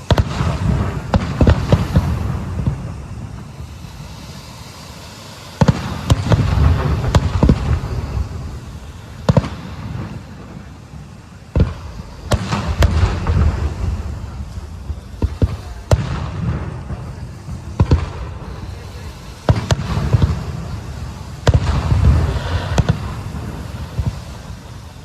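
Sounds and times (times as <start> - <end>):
fireworks bangs: 0.0 - 25.0
low rumbling and crackle: 0.0 - 25.0.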